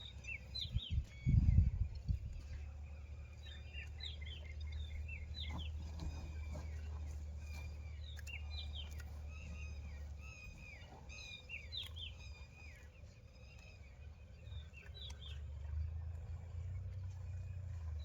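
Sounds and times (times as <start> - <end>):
birds chirping: 0.0 - 15.8
steady low rumble: 0.0 - 18.0.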